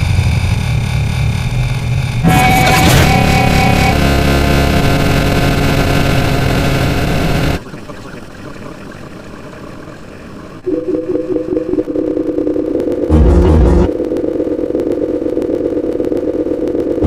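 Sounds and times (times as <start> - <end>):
loud dense noise with tones: 0.0 - 17.0.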